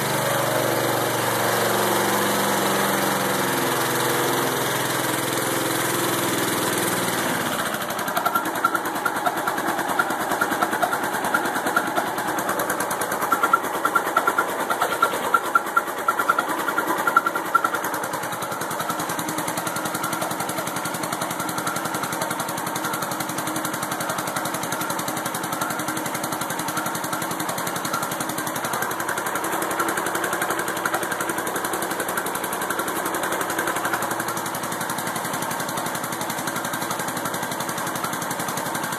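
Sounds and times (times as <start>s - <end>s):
lawnmower engine running generator: 0.0s - 38.9s.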